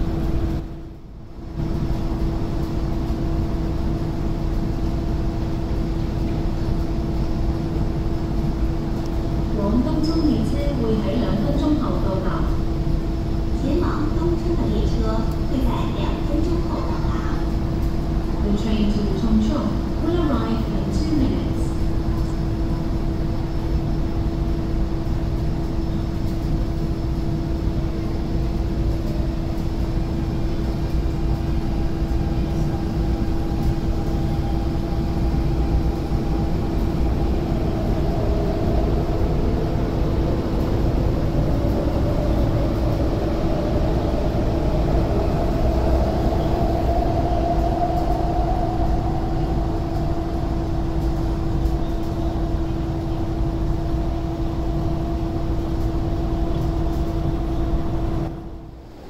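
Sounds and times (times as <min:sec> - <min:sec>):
steady hum and low rumble: 0:00.0 - 0:59.0.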